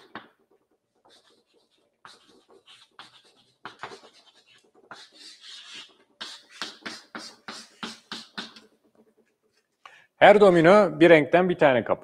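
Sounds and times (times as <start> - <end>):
chalk scratching on a chalkboard: 0.0 - 9.7.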